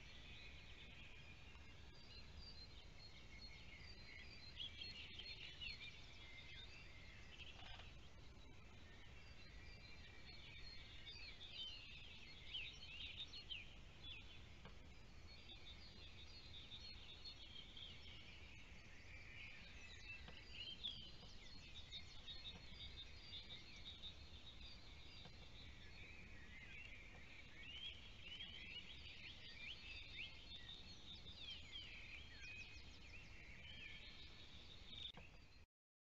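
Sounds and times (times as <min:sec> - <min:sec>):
songbirds chirping: 0:00.0 - 0:35.6.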